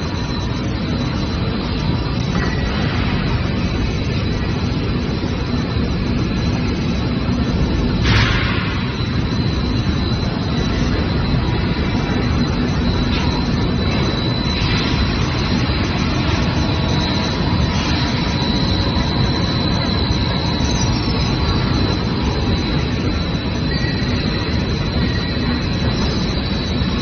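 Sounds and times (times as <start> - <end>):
loud machinery drone: 0.0 - 27.0
thin high whine: 0.0 - 27.0.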